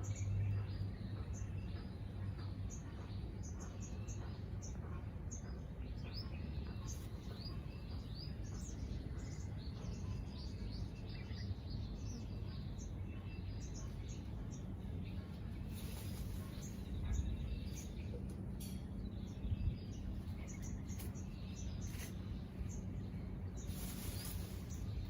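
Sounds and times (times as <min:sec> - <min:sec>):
low background rumble: 0:00.0 - 0:25.0
small birds chirping: 0:00.0 - 0:25.0.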